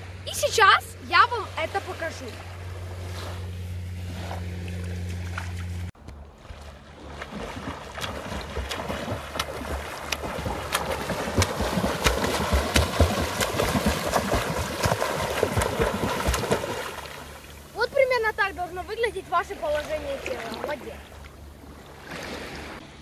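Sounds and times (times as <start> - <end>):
low hum: 0.0 - 23.0
swimmer splashing: 0.0 - 23.0.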